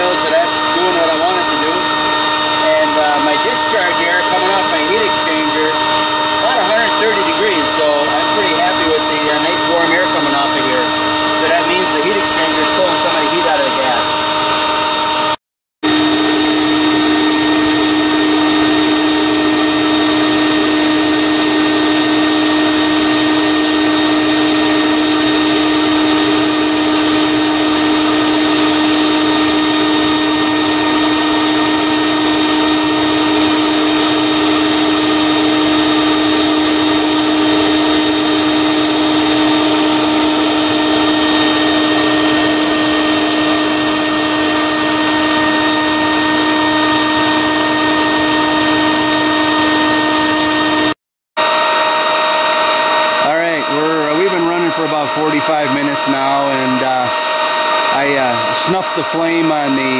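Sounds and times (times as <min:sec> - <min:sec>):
electric blower whining: 0:00.0 - 0:59.9.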